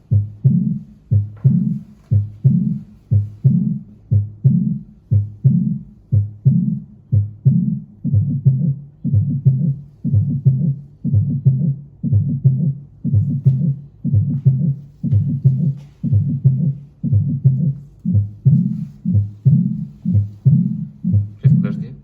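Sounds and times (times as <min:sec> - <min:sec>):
heartbeat through stethoscope: 0:00.0 - 0:22.0.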